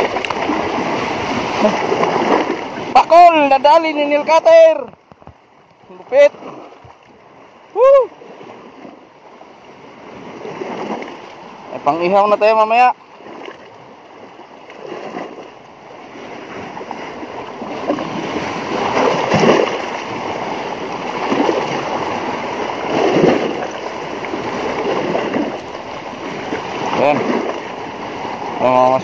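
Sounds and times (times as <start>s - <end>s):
seawater splashing against rocks: 0.0s - 29.0s.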